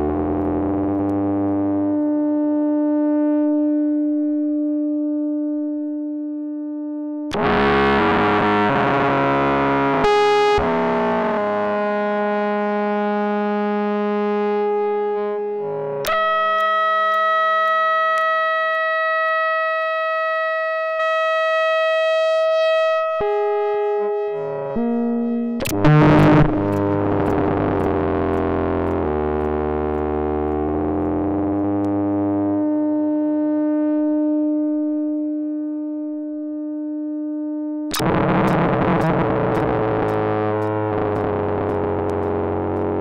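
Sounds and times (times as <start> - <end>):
synthesizer holding long tones: 0.0 - 43.0.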